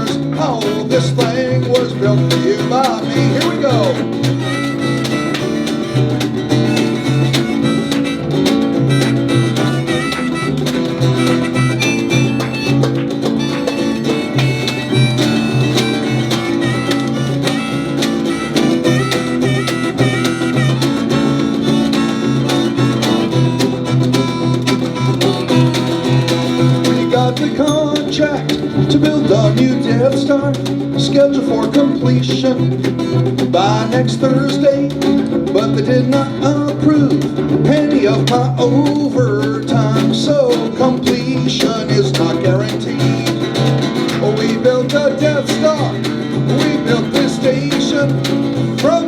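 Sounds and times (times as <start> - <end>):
live band playing guitar-led music: 0.0 - 49.0.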